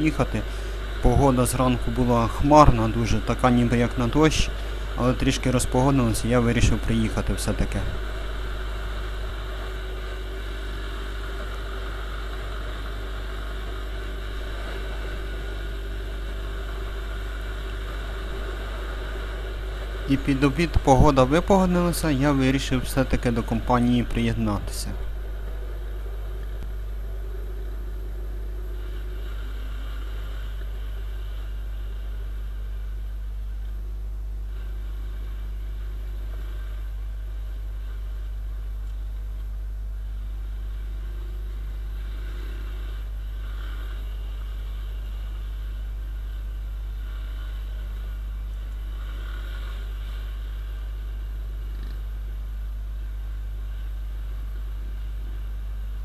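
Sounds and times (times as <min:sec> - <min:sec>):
motorcycle engine running: 0:00.0 - 0:52.4.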